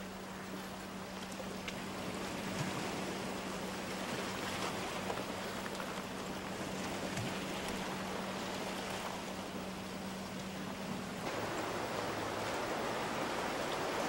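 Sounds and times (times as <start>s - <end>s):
surf on rocky shore: 0.0s - 14.0s.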